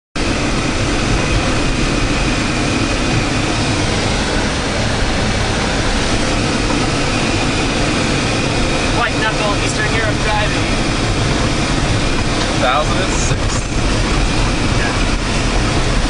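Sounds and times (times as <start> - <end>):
engine running: 0.2 - 16.0
tyres rolling on pavement: 0.2 - 16.0.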